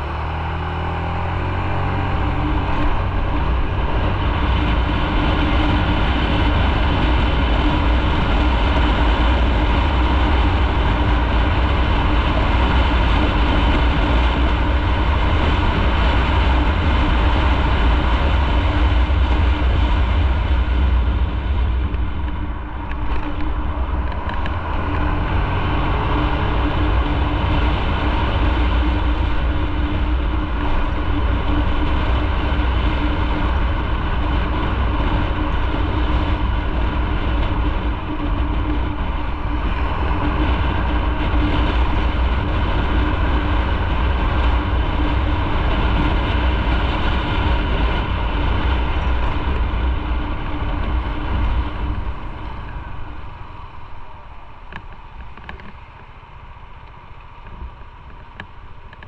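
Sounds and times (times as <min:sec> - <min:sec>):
motorcycle engine: 0:00.0 - 0:59.0
road noise: 0:00.0 - 0:59.0
wind rush on microphone: 0:00.0 - 0:59.0.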